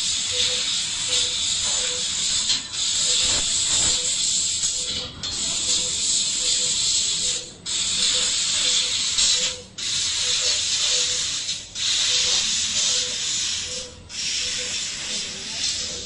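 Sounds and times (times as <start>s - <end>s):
loud hiss of gas jetting: 0.0s - 16.0s.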